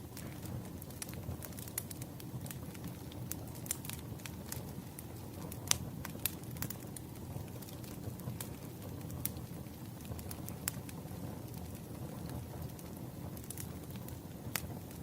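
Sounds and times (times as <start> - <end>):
firewood crackling and popping: 0.0 - 15.0
low rumble of flames: 0.0 - 15.0.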